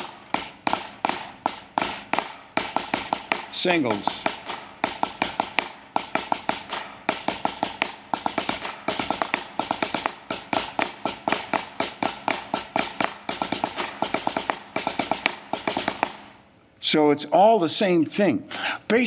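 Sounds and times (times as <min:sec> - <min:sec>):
snare drum rudiments: 0:00.0 - 0:16.4.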